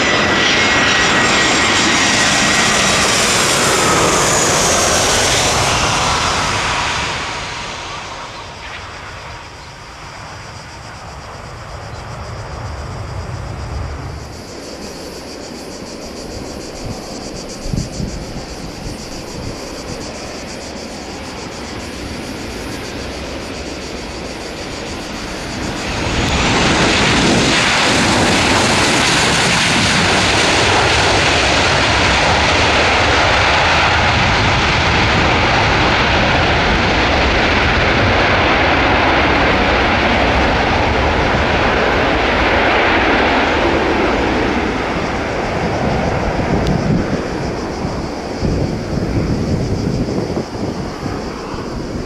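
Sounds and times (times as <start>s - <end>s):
airliner engines passing: 0.0s - 52.0s.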